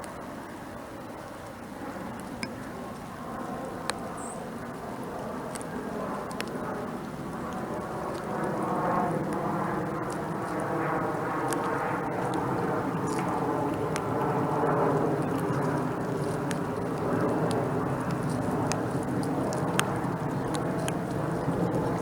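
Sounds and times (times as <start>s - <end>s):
aircraft engine drone: 0.0s - 22.0s
sharp ticks: 1.2s - 22.0s.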